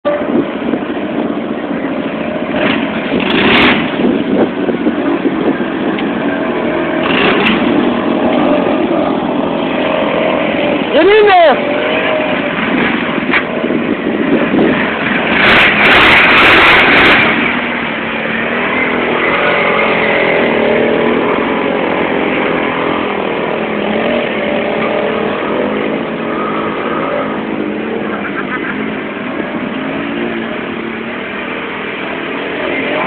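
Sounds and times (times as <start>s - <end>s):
atv engines revving: 0.0s - 33.0s
loud rush of noise: 0.0s - 33.0s.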